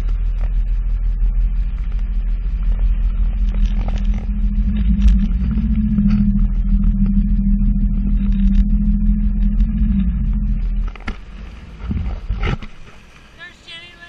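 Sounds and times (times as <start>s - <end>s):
jet ski engine at low revs: 0.0s - 13.5s.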